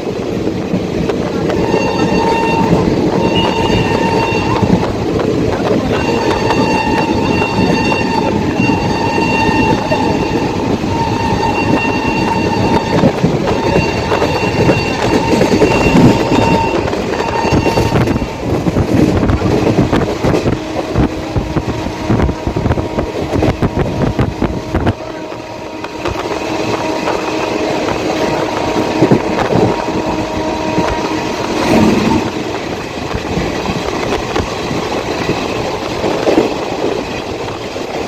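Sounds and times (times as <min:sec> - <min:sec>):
train passing at speed: 0:00.0 - 0:38.0.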